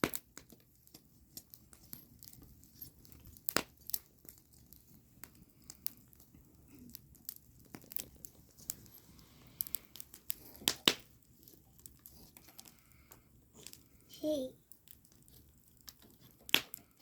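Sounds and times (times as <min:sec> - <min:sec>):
sharp pops and snaps: 0:00.0 - 0:14.0, 0:14.6 - 0:17.0
wood fire crackling: 0:00.0 - 0:17.0.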